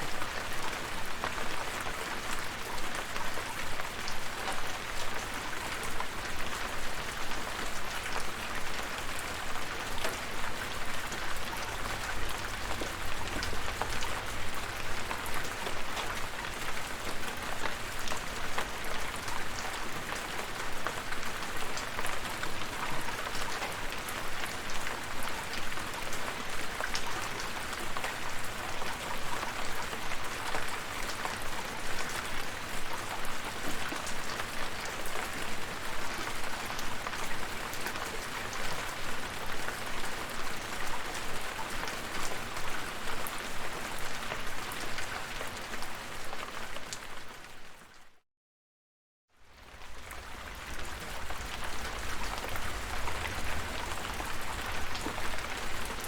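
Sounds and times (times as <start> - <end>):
steady rain: 0.0 - 48.2, 49.3 - 56.0.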